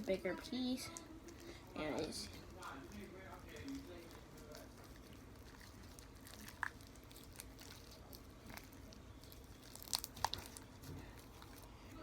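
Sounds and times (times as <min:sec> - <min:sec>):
sticky slime crackling and popping: 0:00.8 - 0:12.0.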